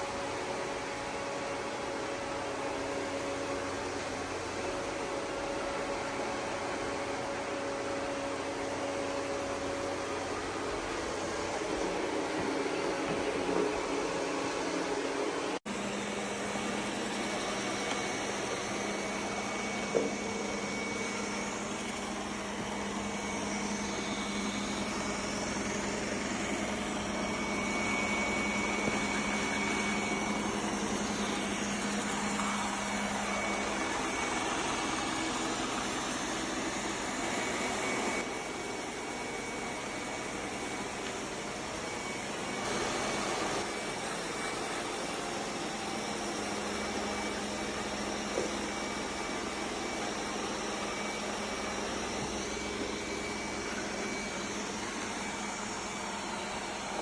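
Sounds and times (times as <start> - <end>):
robot vacuum whirring: 3.4 - 57.0.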